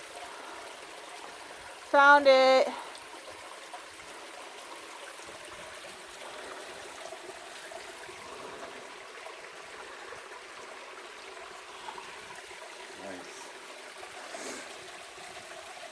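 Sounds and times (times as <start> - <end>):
water trickling in small waterfall: 0.0 - 15.9.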